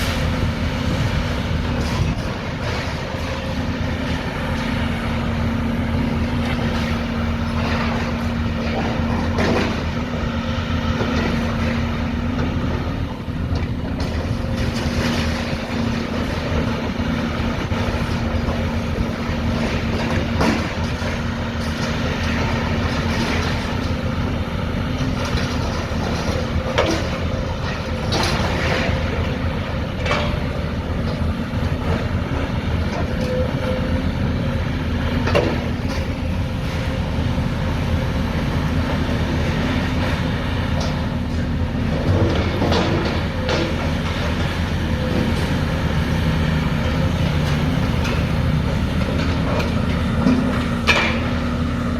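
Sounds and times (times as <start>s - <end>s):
heavy engine rumbling: 0.0s - 51.9s.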